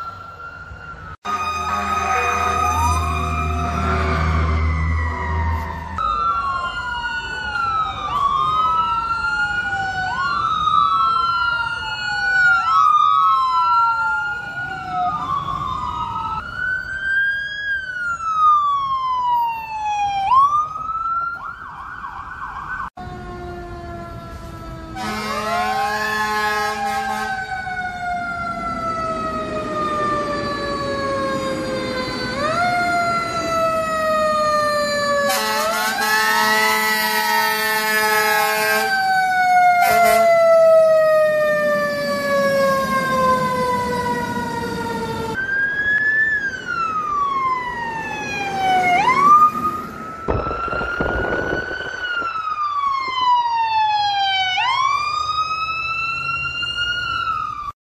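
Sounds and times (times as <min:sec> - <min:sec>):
emergency sirens wailing: 0:00.0 - 0:57.8.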